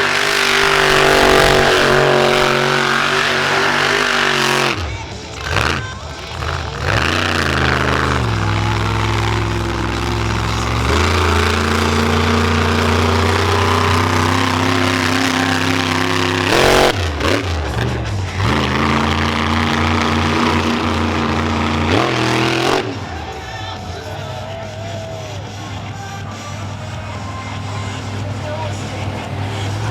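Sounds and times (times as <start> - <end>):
monster truck engine revving: 0.0 - 29.9
music playing over arena: 0.0 - 29.9.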